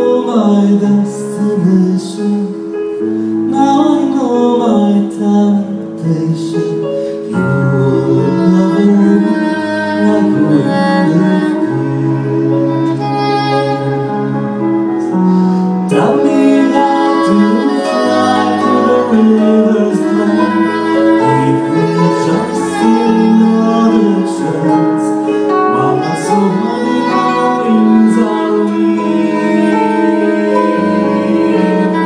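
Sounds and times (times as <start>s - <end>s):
live band music: 0.0s - 32.0s.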